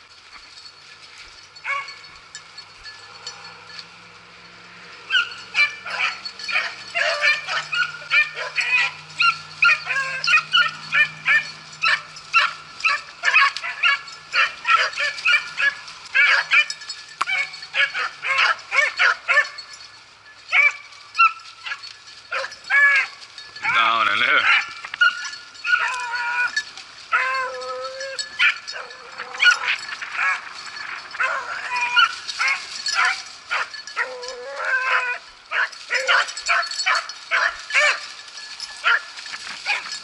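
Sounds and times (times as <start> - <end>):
beagles baying and yelping: 0.0 - 40.0.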